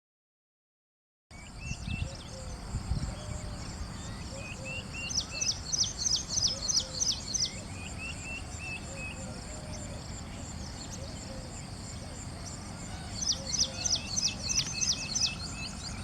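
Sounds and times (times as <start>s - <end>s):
birds chirping: 1.3s - 16.0s.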